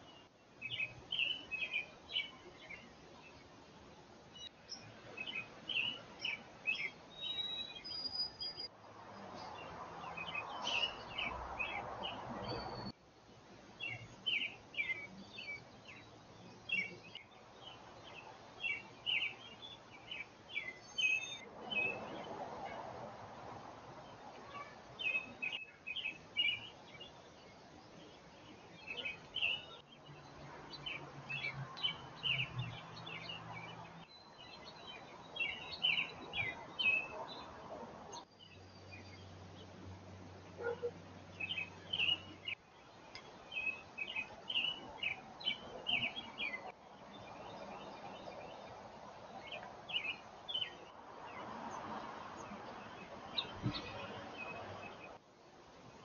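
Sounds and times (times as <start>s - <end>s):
small birds chirping: 0.0s - 22.8s, 23.8s - 56.0s.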